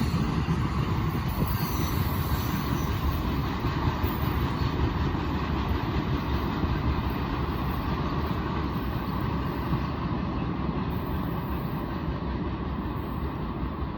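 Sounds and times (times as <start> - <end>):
freight train wheels rumbling: 0.0 - 13.9.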